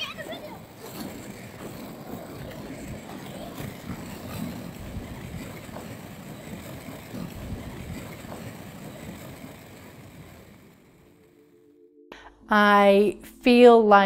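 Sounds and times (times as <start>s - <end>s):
skate wheels rolling on asphalt: 0.0s - 11.3s.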